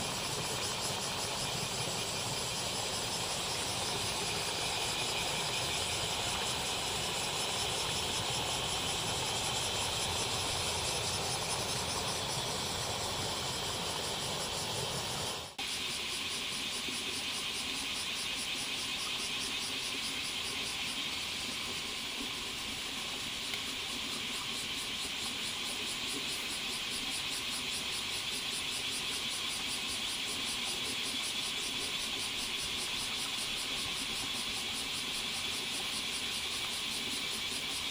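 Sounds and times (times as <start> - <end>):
cicadas shrilling: 0.0 - 37.9.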